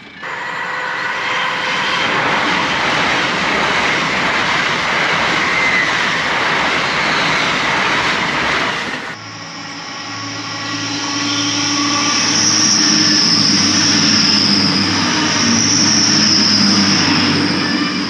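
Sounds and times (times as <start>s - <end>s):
high-speed train passing: 0.0s - 18.0s.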